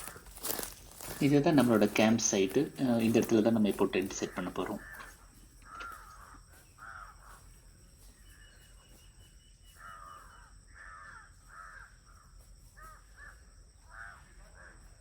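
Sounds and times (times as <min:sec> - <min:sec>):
crow cawing: 0:00.0 - 0:07.5, 0:09.7 - 0:15.0.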